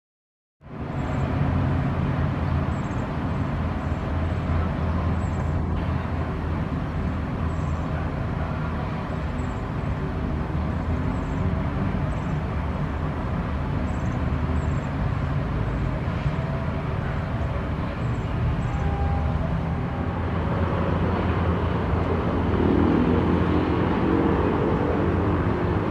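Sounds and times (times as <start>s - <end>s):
city traffic rumble: 0.6s - 25.9s.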